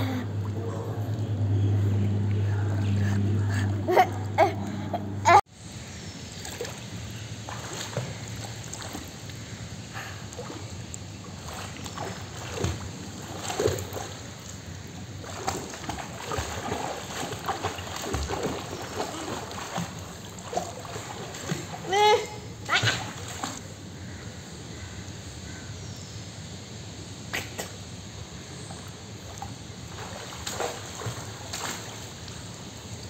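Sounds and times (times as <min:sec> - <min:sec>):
pool water splashing: 0:00.0 - 0:23.8, 0:28.8 - 0:33.0.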